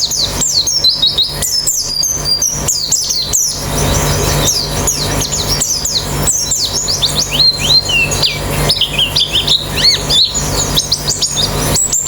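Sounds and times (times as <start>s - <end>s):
small birds chirping together: 0.0s - 12.0s
steady low hum: 0.0s - 12.0s.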